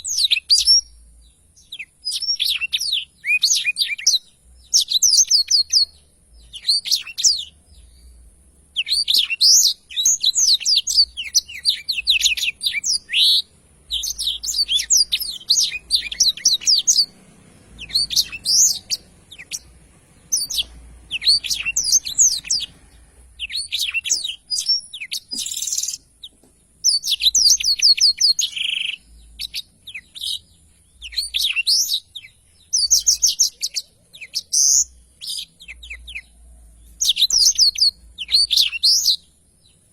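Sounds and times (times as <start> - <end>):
bird singing high trills: 0.0 - 39.8.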